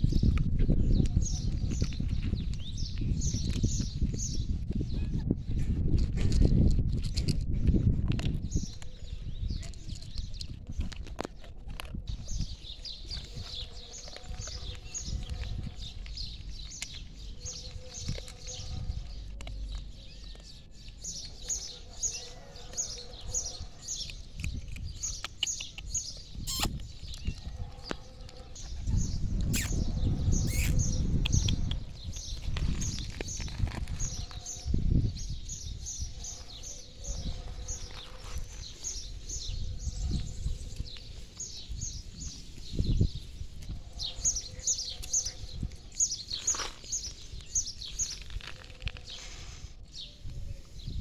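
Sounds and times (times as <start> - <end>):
small birds chirping: 0.0 - 7.4, 8.1 - 51.0.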